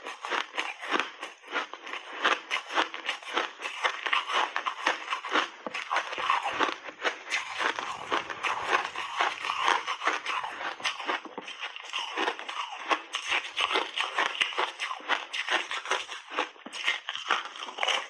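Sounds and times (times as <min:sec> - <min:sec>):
ice being bitten and chewed: 0:00.0 - 0:18.0.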